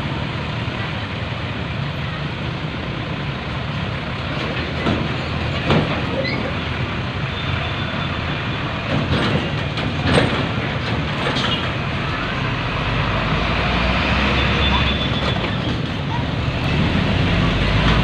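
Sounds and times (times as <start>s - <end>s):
train wagons rumbling: 0.0s - 18.0s.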